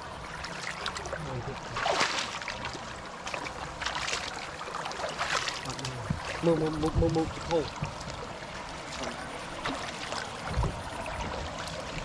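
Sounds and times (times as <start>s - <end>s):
water splashes: 0.0s - 12.0s.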